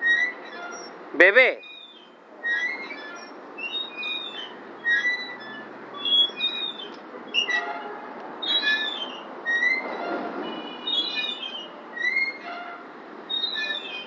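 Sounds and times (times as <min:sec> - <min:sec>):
metal swing squeaking: 0:00.0 - 0:14.0.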